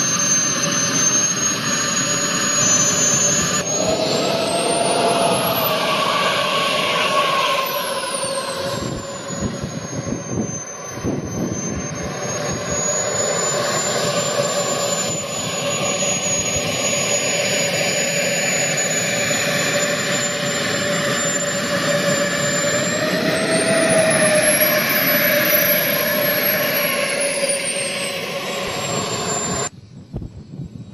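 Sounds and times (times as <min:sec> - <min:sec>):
model jet turbine whistle: 0:00.0 - 0:29.8.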